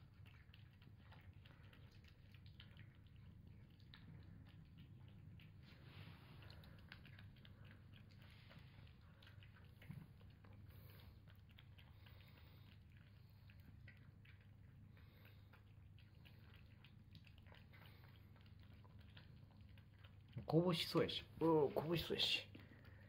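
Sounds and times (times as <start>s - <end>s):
cats chewing and licking: 0.0s - 23.0s.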